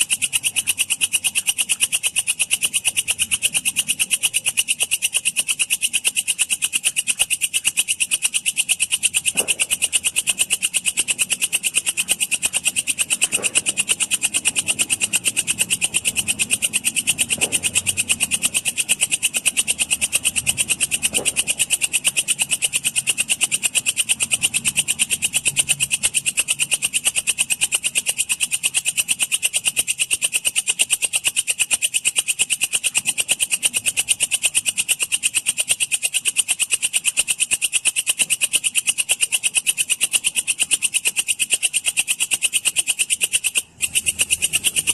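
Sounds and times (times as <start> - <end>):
katydid stridulating: 0.0 - 44.9.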